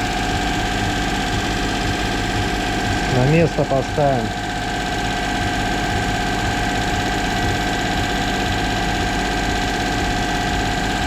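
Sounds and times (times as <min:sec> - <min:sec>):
petrol engine idling: 0:00.0 - 0:11.0
steady whine: 0:00.0 - 0:11.0.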